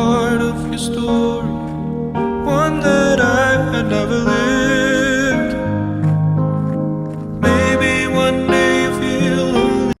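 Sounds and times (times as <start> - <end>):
pop music with acoustic guitar: 0.0 - 10.0.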